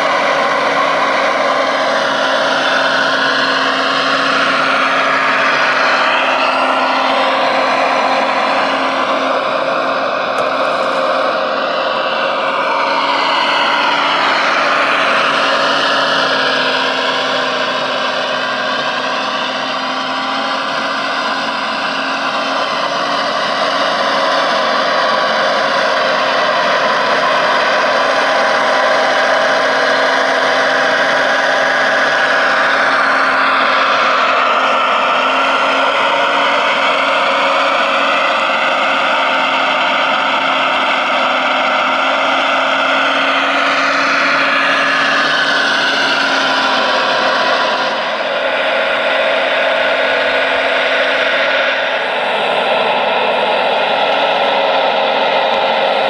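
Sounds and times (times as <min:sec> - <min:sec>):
electric motors whining: 0:00.0 - 0:56.0.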